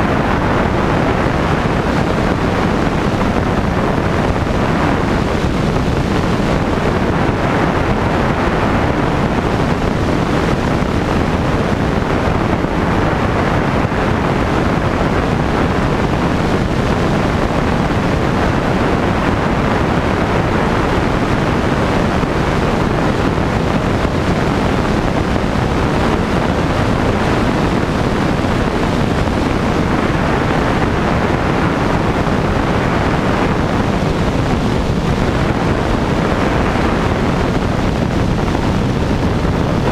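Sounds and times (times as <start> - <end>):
propeller engine drone: 0.0 - 39.9
wind rush on microphone: 0.0 - 39.9.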